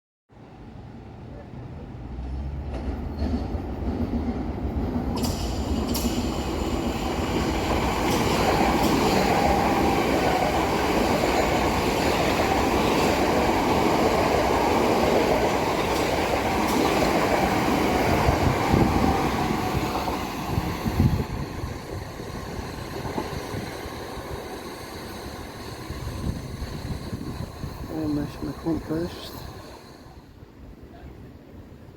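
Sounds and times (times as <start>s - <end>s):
electric train rumbling past: 0.4s - 31.9s
wheels clacking over rail joints: 2.1s - 27.8s.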